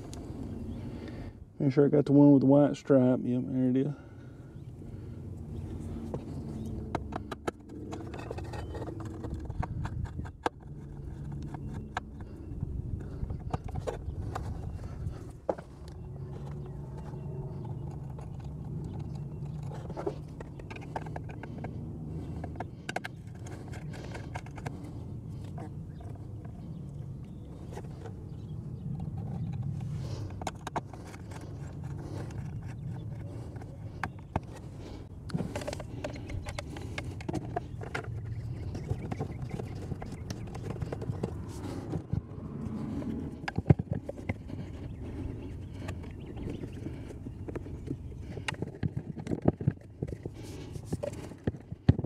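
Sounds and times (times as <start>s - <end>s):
low steady rumble: 0.0s - 52.0s.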